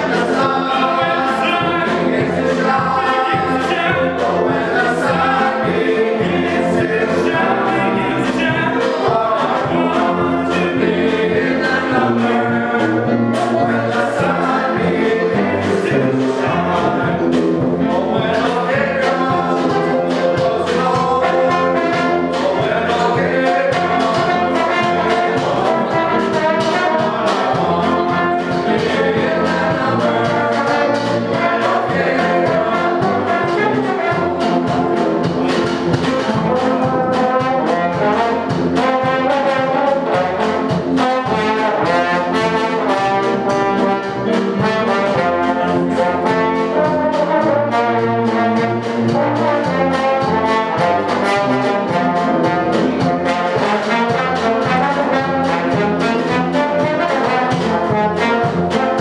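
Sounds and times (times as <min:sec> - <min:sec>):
drum kit beat: 0:00.0 - 0:59.0
jazz ensemble playing: 0:00.0 - 0:59.0.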